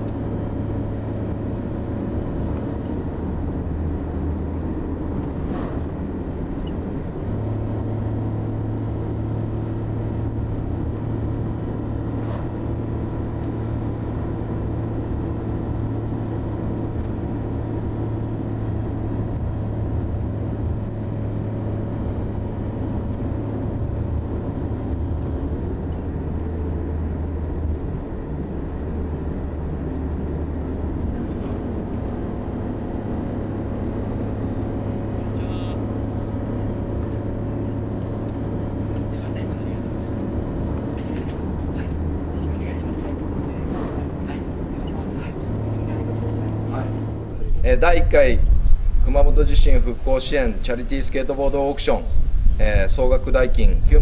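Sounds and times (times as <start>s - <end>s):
low rumbling drone: 0.0s - 54.0s.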